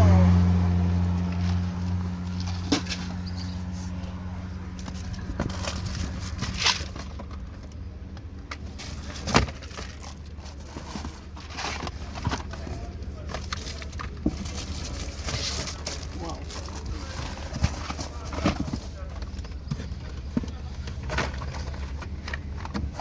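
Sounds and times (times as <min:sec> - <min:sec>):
packaging rustling: 0:02.4 - 0:07.6, 0:08.6 - 0:23.0.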